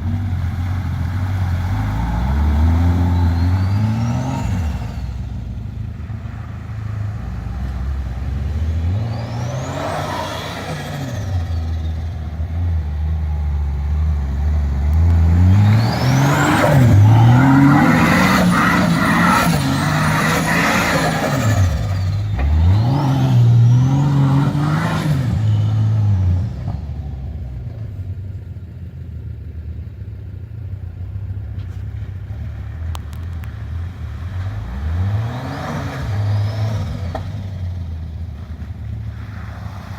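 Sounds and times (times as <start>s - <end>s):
car engine revving: 0.0s - 28.4s, 30.3s - 39.9s.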